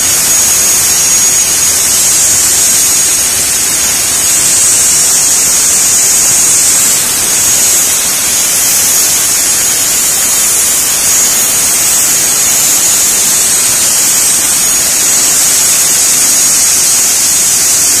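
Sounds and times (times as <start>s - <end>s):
plasma torch cutting steel hiss: 0.0s - 18.0s.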